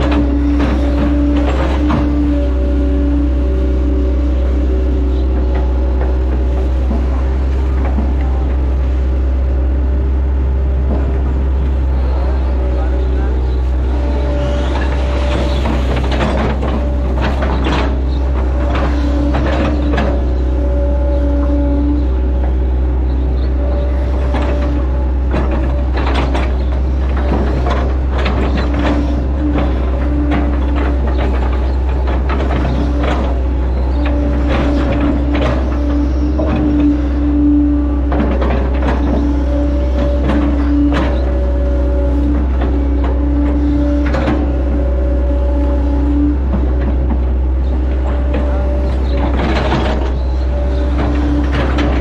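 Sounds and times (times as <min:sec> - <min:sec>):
knocks and clanks: 0:00.0 - 0:02.9, 0:04.8 - 0:08.9, 0:10.8 - 0:22.8, 0:23.4 - 0:52.0
excavator diesel drone: 0:00.0 - 0:52.0
hydraulic whine: 0:00.0 - 0:52.0.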